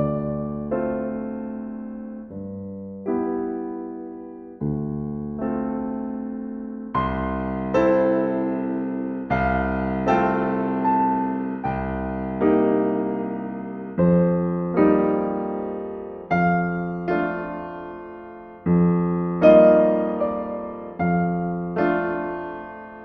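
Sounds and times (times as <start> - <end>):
slow gentle piano chords: 0.0 - 23.0.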